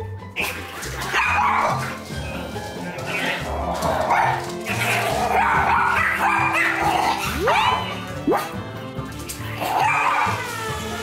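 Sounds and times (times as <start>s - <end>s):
background music: 0.0s - 11.0s
small dogs barking and yipping: 0.4s - 8.6s, 9.4s - 11.0s.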